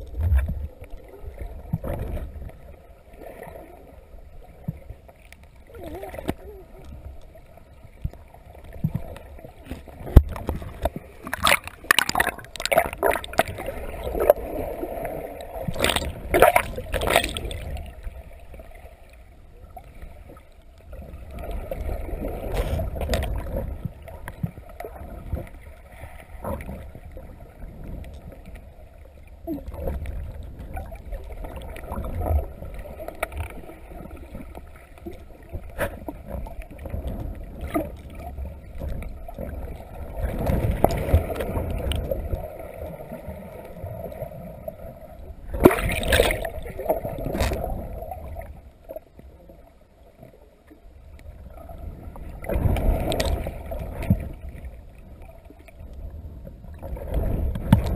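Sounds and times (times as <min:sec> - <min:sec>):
underwater rumble and gurgling: 0:00.0 - 0:57.9.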